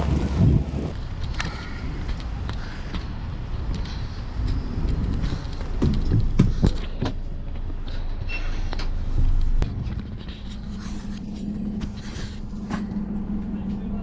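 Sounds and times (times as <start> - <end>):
low engine hum: 0.0 - 14.0
vehicle rumbling in motion: 0.0 - 14.0.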